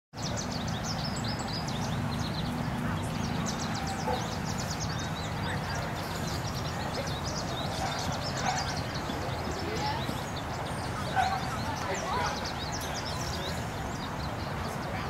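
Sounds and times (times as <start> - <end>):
faint distant voices: 0.2 - 15.0
small birds chirping: 0.2 - 15.0.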